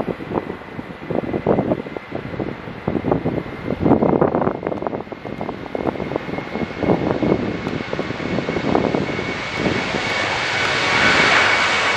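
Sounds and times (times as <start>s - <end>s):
jet engines rumbling and whining: 0.0s - 11.9s.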